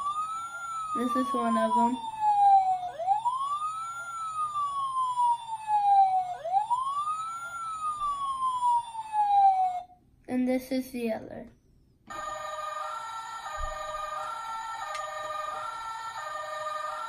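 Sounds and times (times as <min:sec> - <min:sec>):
toy siren wailing: 0:00.0 - 0:09.9, 0:12.1 - 0:17.0.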